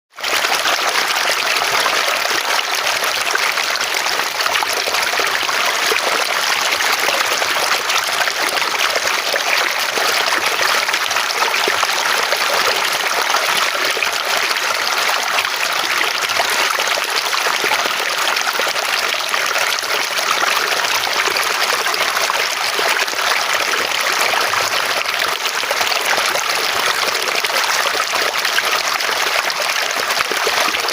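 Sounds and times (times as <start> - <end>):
flowing water: 0.1 - 30.9.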